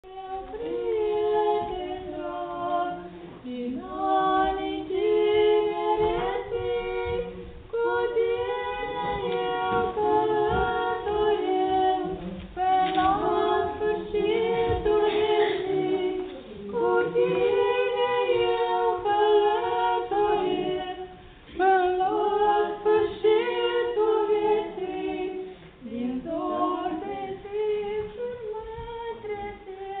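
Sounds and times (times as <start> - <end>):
woman singing unaccompanied: 0.0 - 30.0.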